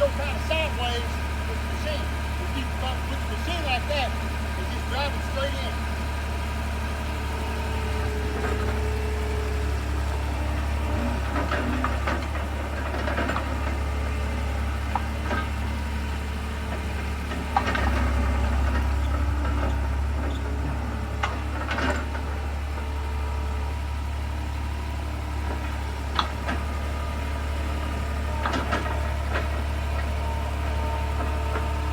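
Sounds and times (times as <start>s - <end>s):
skid steer engine running: 0.0s - 31.9s.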